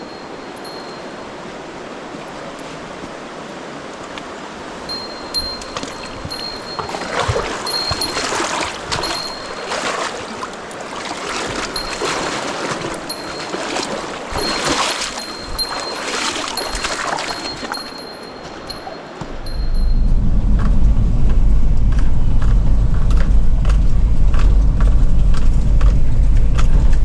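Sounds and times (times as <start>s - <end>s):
stream water rushing and splashing: 0.0s - 27.0s.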